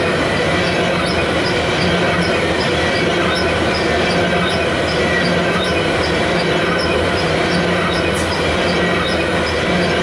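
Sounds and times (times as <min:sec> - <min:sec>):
train wheels rumbling on rail: 0:00.0 - 0:10.0
high-pitched wheel ticks: 0:00.6 - 0:10.0.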